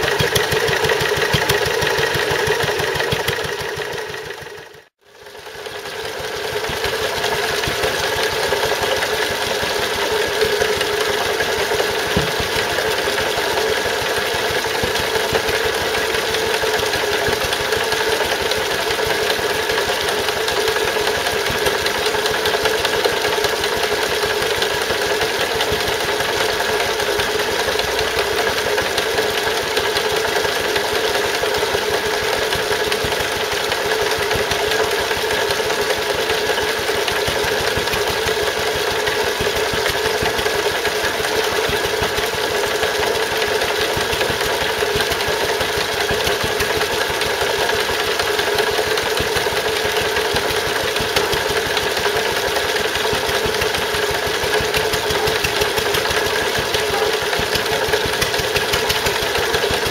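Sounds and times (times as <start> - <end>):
water pouring from pump: 0.0 - 4.7, 5.3 - 59.9
stationary engine running: 0.0 - 59.9.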